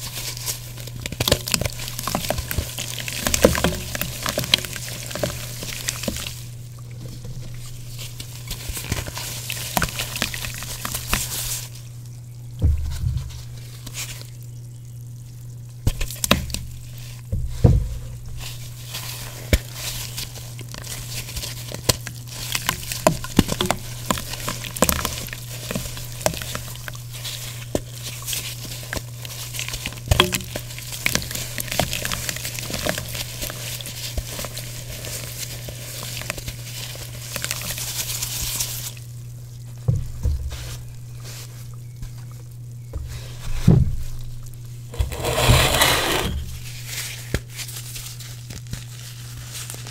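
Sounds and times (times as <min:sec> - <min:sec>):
wet chalk crackling and crumbling: 0:00.0 - 0:49.9.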